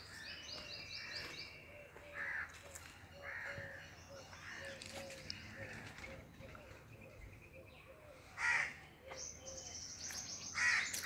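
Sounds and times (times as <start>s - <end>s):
harsh bird calls: 0.0s - 11.0s.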